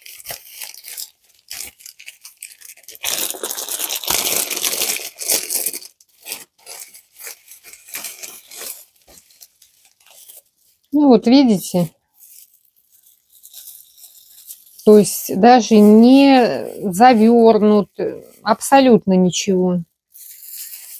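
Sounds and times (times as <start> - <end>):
plastic bag ripping and crinkling: 0.0 - 18.9, 19.8 - 20.9.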